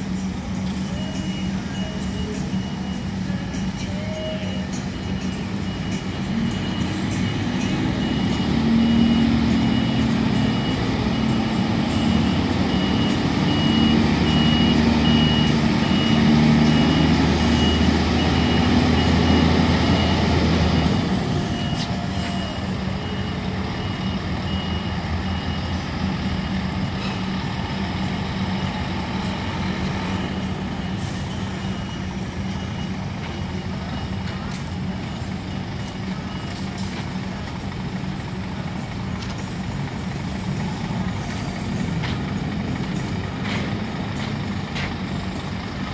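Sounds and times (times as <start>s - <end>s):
diesel truck engine running: 0.0s - 45.9s
reversing beeper: 0.5s - 43.8s.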